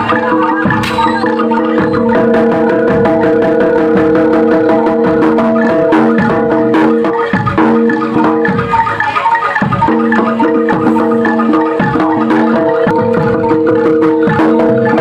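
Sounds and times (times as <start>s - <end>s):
drums struck in quick rhythm: 0.0s - 15.0s
held notes: 0.0s - 15.0s
metal mallet instruments: 0.0s - 15.0s.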